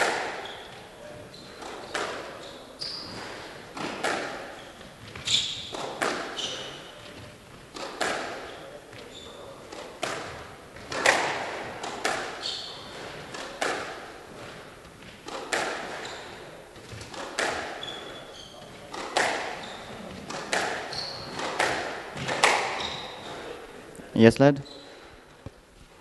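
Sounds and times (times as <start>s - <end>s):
squash ball hits: 0.0s - 0.8s, 1.5s - 2.3s, 3.0s - 9.1s, 9.7s - 18.2s, 18.8s - 23.6s
shoes squeaking on wooden floor: 0.0s - 23.9s, 24.5s - 26.0s.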